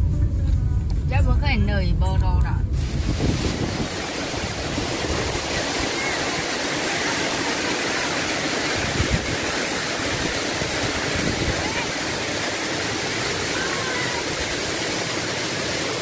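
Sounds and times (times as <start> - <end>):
waterfall rushing into a pool: 2.8 - 16.0.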